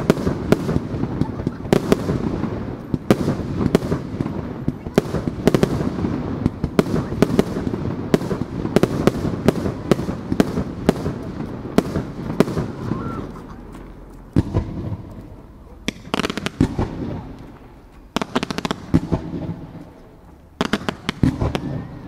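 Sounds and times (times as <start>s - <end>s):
rolling low echo: 0.0s - 22.0s.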